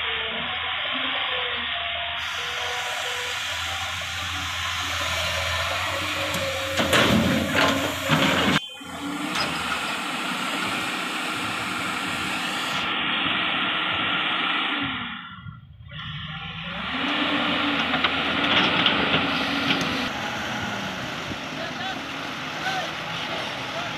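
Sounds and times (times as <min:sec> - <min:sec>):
excavator engine running: 0:00.0 - 0:23.9
truck engine running: 0:00.0 - 0:23.9.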